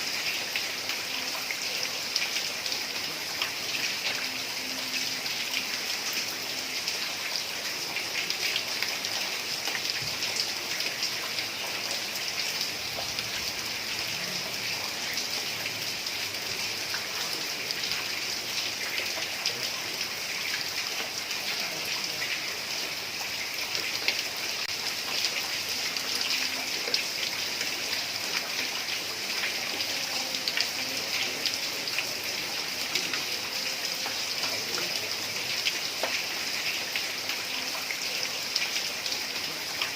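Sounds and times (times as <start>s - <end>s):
heavy rain on roof tiles: 0.0s - 39.9s.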